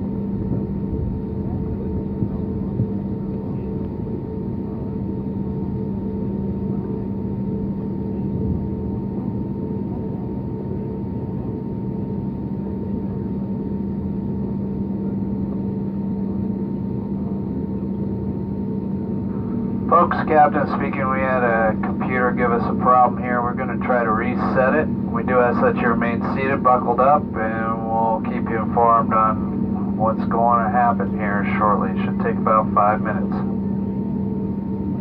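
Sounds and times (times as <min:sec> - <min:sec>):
airplane cabin engine hum: 0:00.0 - 0:35.0.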